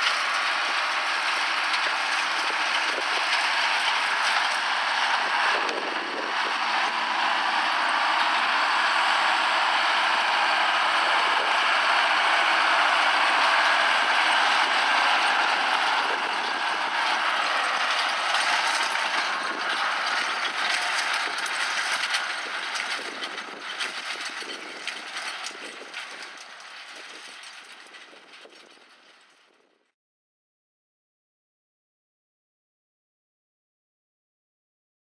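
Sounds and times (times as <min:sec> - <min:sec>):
hay rake tines rattling: 0:00.0 - 0:29.5
tractor engine running: 0:00.0 - 0:29.6.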